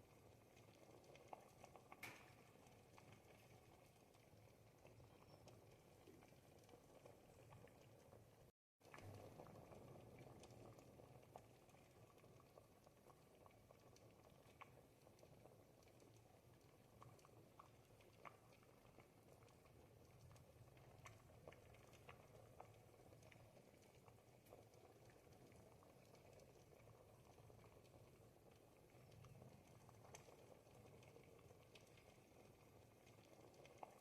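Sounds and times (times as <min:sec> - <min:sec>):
soup bubbling in a pot: 0:00.0 - 0:34.0.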